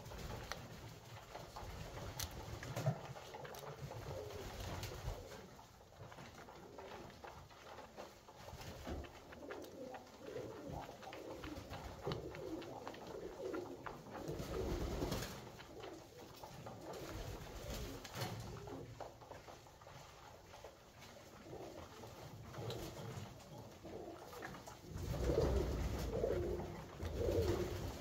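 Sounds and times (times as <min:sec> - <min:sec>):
beaks pecking grain: 0:00.0 - 0:28.0
pigeons cooing: 0:02.2 - 0:19.0, 0:21.3 - 0:28.0.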